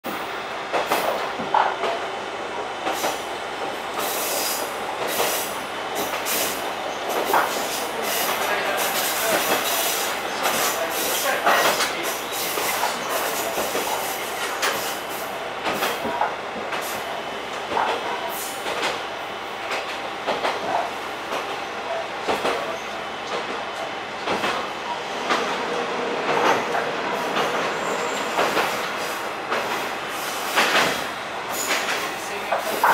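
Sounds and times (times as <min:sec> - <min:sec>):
wheels rumbling on rail: 0:00.0 - 0:32.9.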